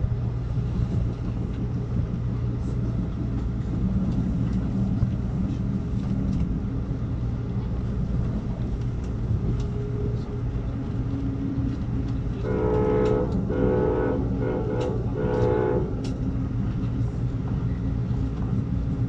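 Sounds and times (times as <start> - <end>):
train rumble and hum: 0.0 - 19.0.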